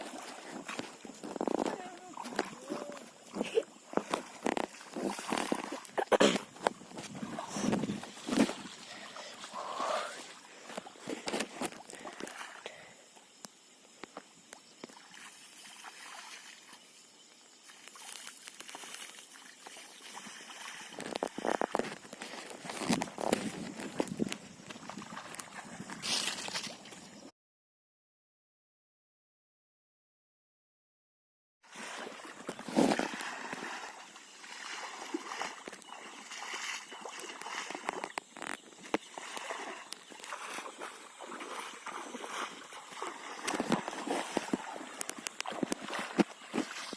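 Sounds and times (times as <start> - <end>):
river water splashing: 0.0 - 12.7, 14.3 - 27.2, 31.7 - 46.9.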